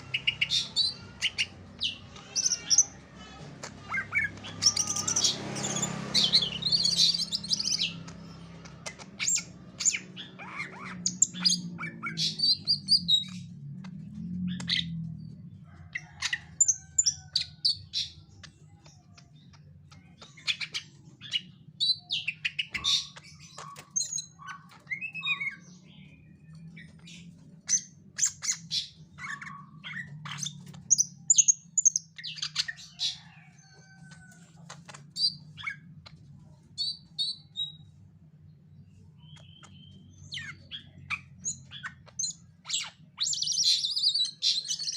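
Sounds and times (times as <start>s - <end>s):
bird chirping and squawking: 0.0s - 38.0s, 38.7s - 44.9s.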